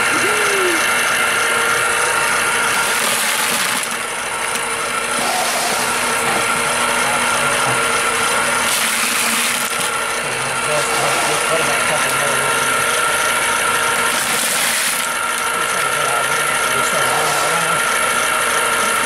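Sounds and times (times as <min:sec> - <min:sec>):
ice cream maker motor whining: 0:00.0 - 0:19.0.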